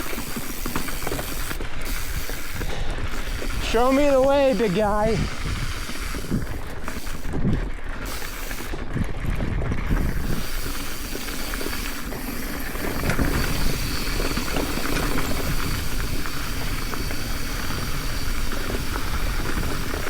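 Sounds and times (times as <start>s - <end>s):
bike hub ratchet buzzing: 0.0s - 9.0s, 9.8s - 20.0s
bike rattling: 0.0s - 20.0s
tyres grinding over dirt: 0.0s - 20.0s.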